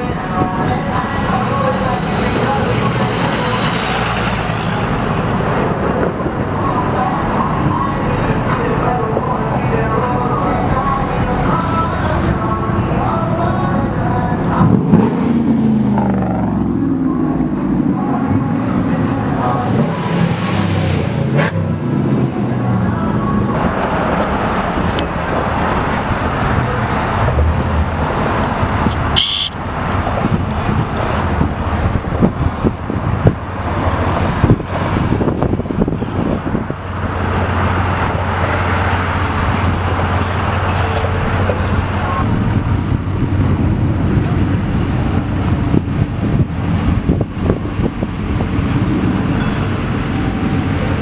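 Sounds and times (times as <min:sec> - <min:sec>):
tyre and road noise: 0:00.0 - 0:51.0
vehicles driving on road: 0:00.0 - 0:51.0.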